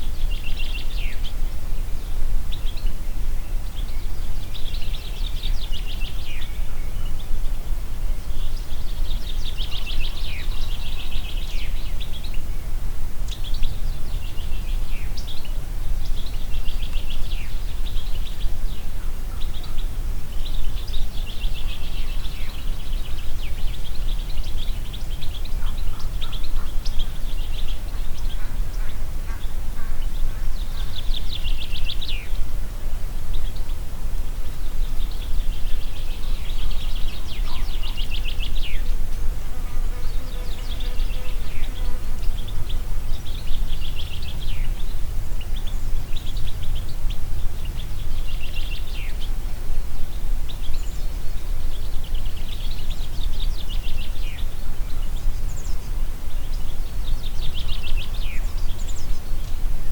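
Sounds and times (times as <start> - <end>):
low wind rumble: 10.9 - 59.9.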